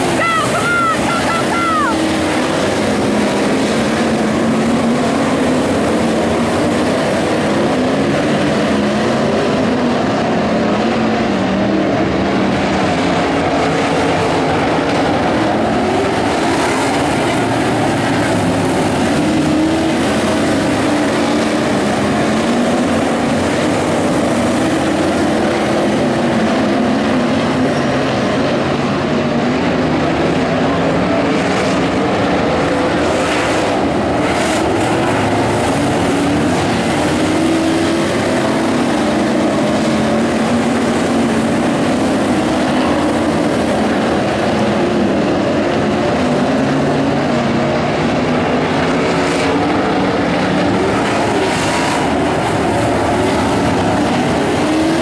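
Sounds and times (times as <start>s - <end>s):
race car engines racing: 0.0s - 55.0s.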